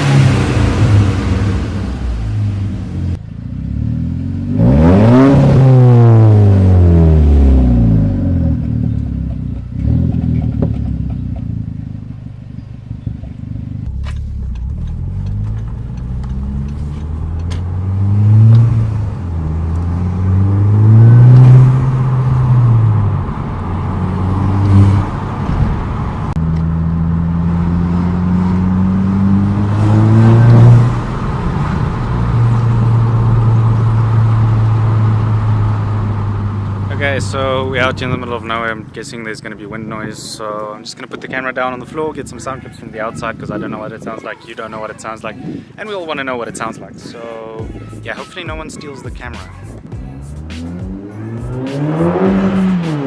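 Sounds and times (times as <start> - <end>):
car engine revving: 0.0 - 40.1, 49.4 - 53.0.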